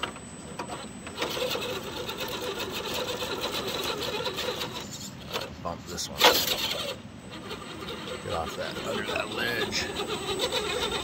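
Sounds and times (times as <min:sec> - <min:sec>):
rc car motor whining: 0:00.0 - 0:11.0.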